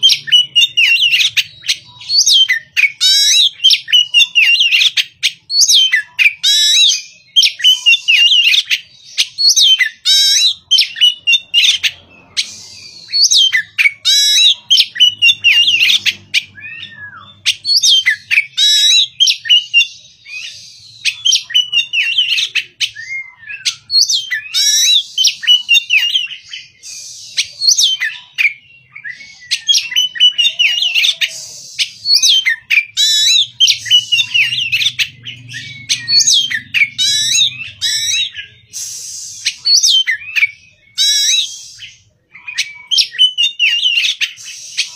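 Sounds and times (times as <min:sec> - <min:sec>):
bird singing whistled notes: 0:00.0 - 0:44.9.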